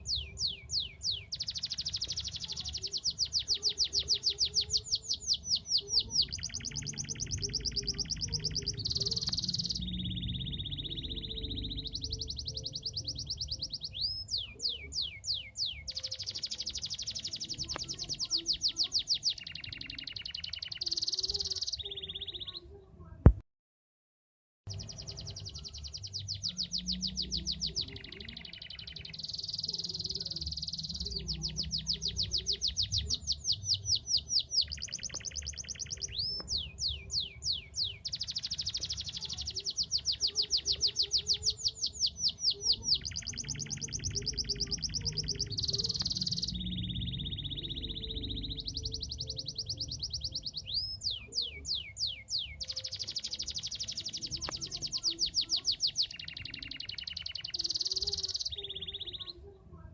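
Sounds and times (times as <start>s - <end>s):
canary trilling song: 0.0s - 23.2s, 24.7s - 59.9s.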